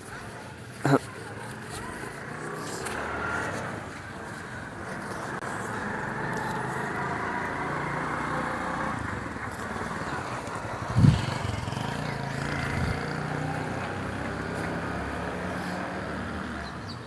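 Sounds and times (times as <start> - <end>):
engine running steadily: 0.0 - 16.6.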